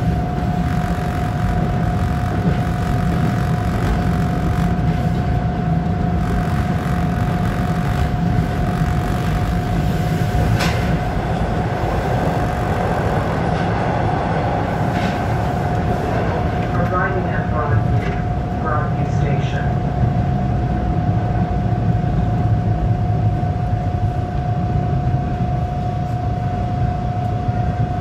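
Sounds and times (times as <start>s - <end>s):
constant whine: 0.0s - 28.0s
steel wheels rumbling on rail: 0.0s - 28.0s.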